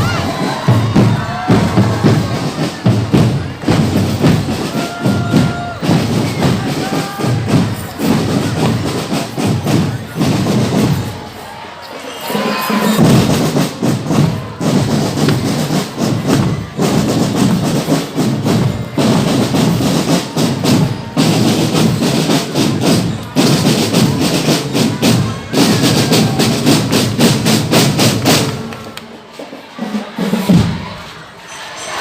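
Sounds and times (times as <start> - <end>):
percussion group playing: 0.0 - 32.0.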